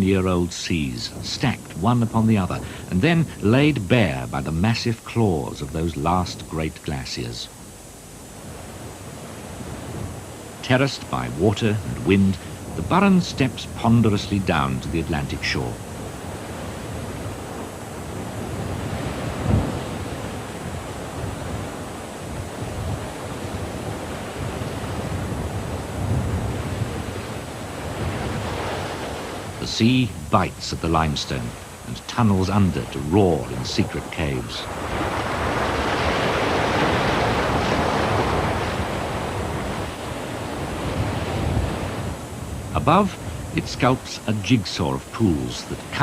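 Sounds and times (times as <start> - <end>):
waves breaking on rocky shore: 0.0 - 7.6, 8.3 - 46.0.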